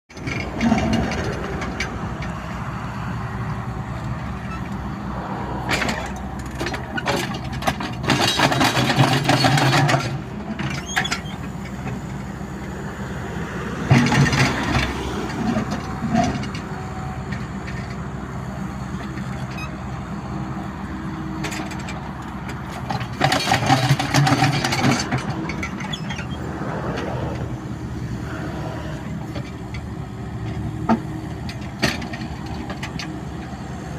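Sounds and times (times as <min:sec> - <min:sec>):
heavy engine running: 0:00.1 - 0:33.9.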